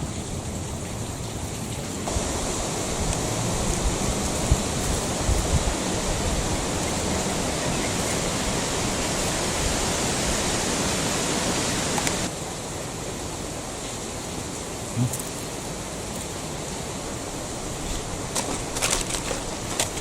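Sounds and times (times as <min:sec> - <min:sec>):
rushing flowing water: 0:00.0 - 0:20.0.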